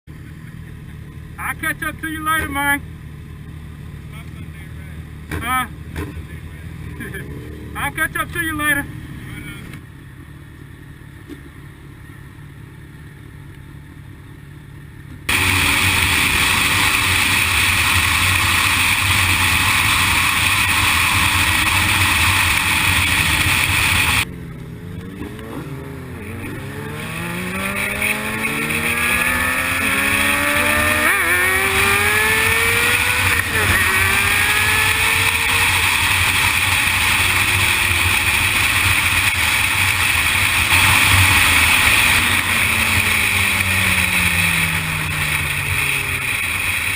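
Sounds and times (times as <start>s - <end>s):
motorcycle engine accelerating: 0.1s - 10.4s, 14.7s - 46.9s.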